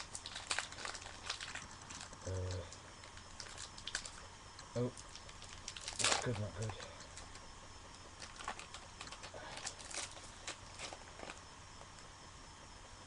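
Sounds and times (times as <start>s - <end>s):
foil wrapper crinkling: 0.0s - 7.4s, 8.1s - 11.4s.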